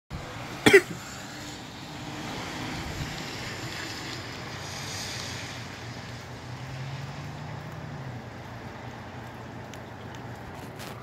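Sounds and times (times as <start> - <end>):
light rain: 0.1 - 11.0
wind: 0.1 - 11.0.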